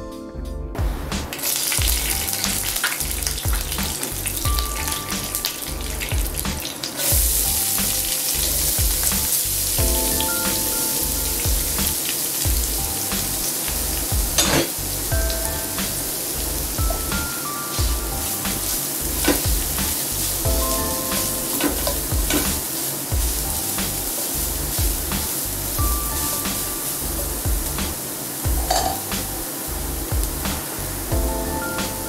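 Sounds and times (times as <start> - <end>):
background music with steady beat: 0.0 - 32.0
oil sizzling and popping in a pan: 1.3 - 17.5, 18.4 - 20.4, 21.2 - 29.2.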